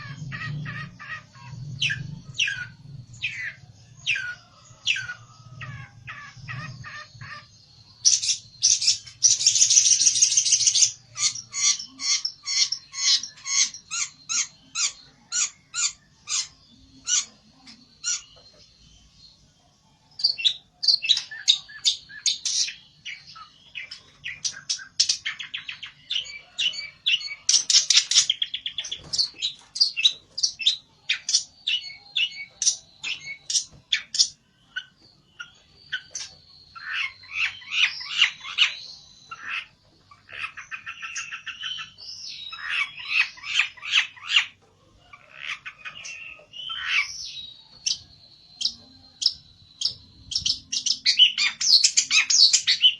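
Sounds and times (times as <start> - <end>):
songbird chirping and trilling: 0.0 - 52.9.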